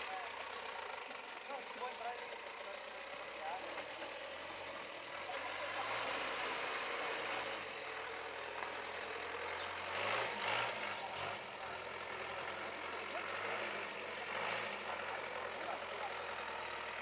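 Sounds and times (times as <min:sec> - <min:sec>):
off-road vehicle engine at low revs: 0:00.0 - 0:17.0.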